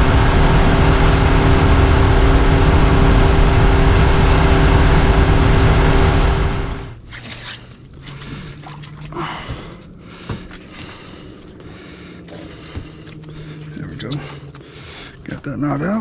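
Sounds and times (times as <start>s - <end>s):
outboard motor running: 0.0s - 7.0s, 7.6s - 16.0s.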